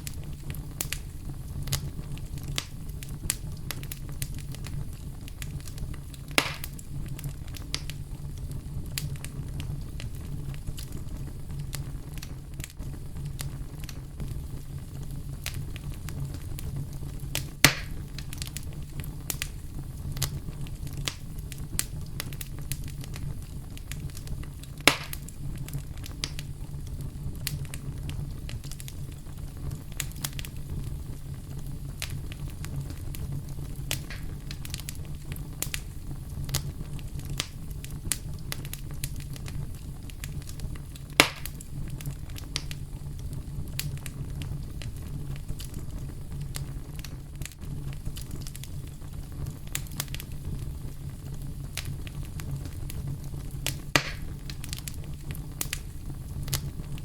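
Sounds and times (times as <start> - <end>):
campfire crackling: 0.0 - 57.0
sharp fire pops: 0.0 - 57.0.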